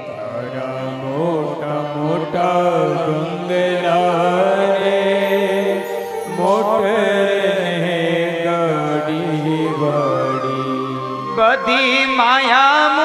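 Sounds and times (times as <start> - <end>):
harmonium drone: 0.0 - 13.0
man singing devotional song: 0.0 - 13.0.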